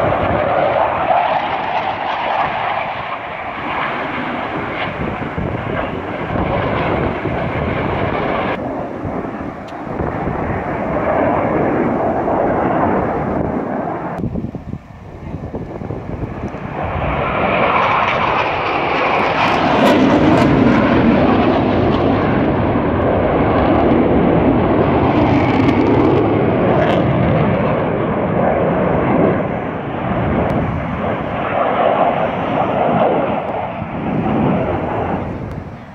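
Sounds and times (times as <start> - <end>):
jets flying overhead: 0.0 - 35.9.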